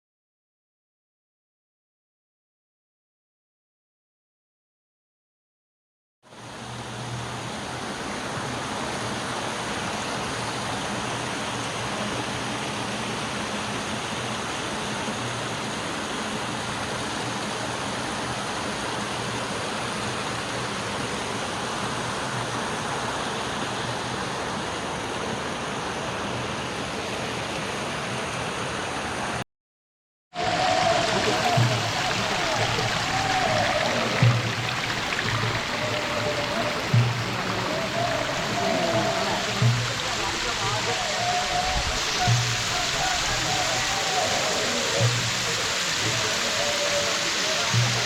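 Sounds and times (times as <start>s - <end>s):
waterfall rushing: 6.3s - 29.4s, 30.4s - 48.0s.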